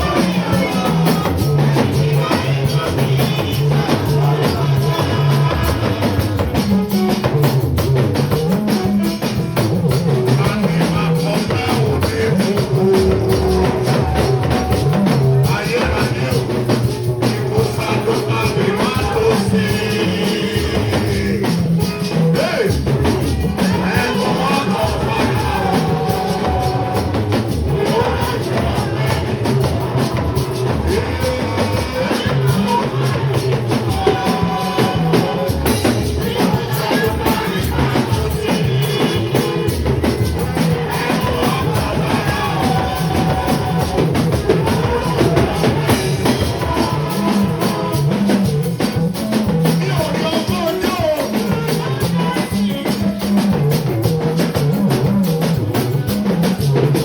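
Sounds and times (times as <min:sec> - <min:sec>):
person singing: 0:00.0 - 0:07.4, 0:10.1 - 0:53.7
drum kit beat: 0:00.0 - 0:57.0
worship band music: 0:00.0 - 0:57.0.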